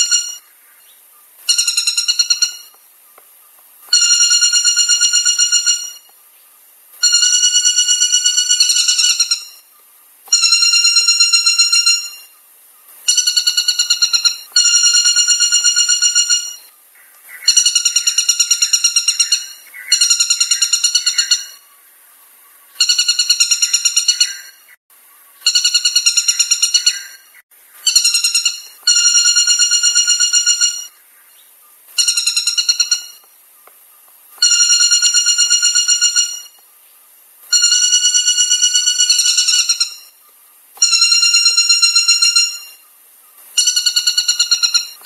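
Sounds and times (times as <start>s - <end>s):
woodpecker calling: 0.0s - 12.4s, 13.0s - 21.8s, 22.6s - 36.7s, 37.5s - 45.0s.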